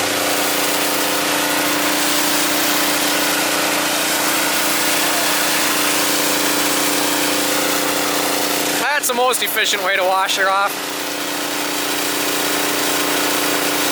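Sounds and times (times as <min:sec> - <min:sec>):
pressure washer engine hum: 0:00.0 - 0:13.9
water spray hissing: 0:00.0 - 0:13.9.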